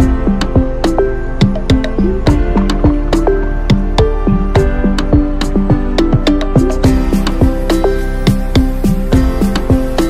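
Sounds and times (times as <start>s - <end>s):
steady beat: 0.0s - 10.0s.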